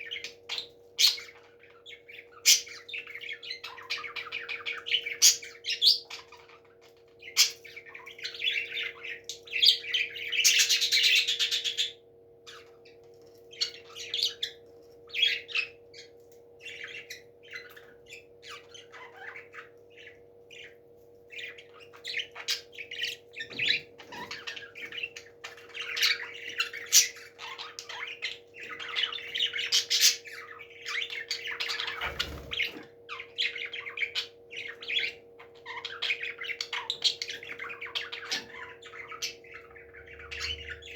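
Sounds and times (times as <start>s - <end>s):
parrots squawking and chirping: 0.0s - 40.9s.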